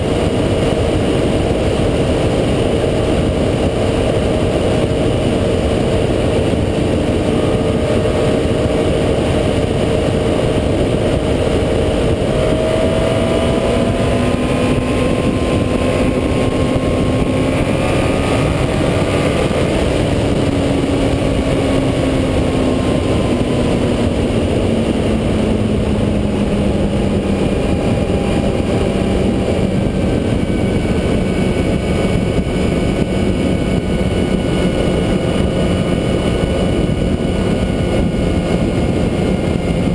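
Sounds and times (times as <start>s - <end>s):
motorcycle engine running: 0.0s - 39.9s
wind rush over camera: 0.0s - 39.9s.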